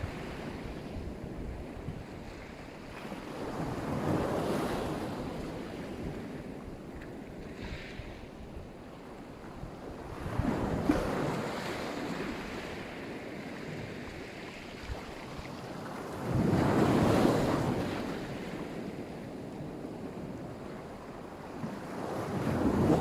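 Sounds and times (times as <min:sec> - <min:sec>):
sea waves breaking on shore: 0:00.0 - 0:23.0
wind rumbling on microphone: 0:00.0 - 0:23.0.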